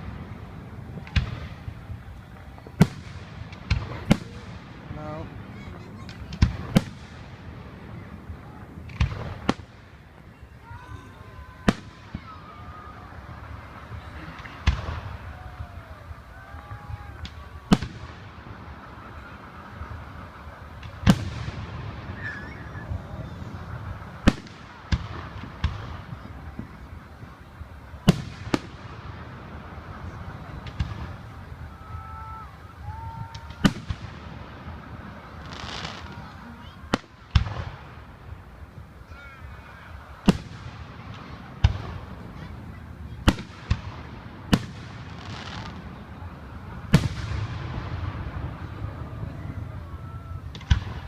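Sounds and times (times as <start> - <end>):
background hiss and rumble: 0.0 - 51.0
fireworks exploding: 0.0 - 51.0.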